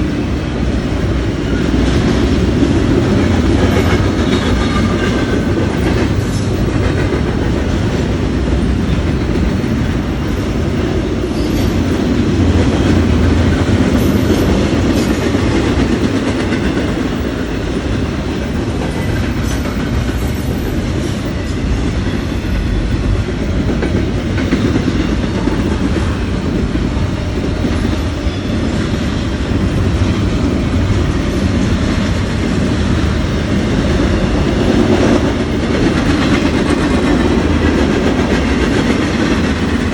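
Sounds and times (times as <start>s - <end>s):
freight train cars rumbling: 0.0s - 39.9s
wheels clacking over rail joints: 1.2s - 39.9s.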